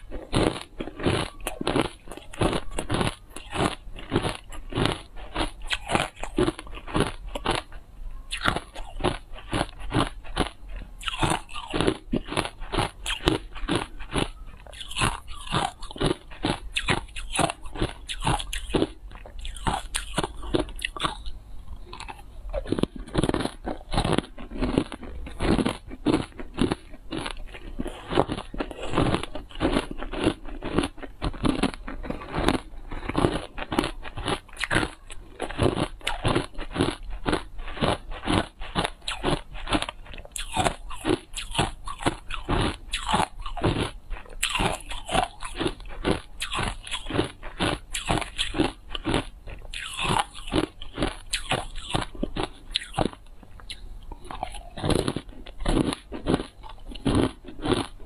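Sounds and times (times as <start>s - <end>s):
ice being crunched and chewed: 0.0s - 58.0s.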